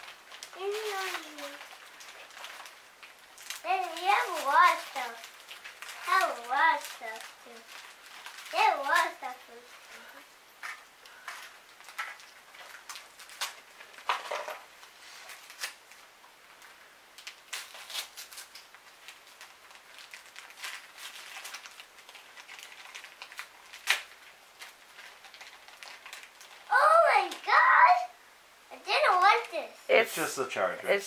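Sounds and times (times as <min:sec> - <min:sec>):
paper rustling and tearing: 0:00.0 - 0:16.1, 0:17.2 - 0:28.0.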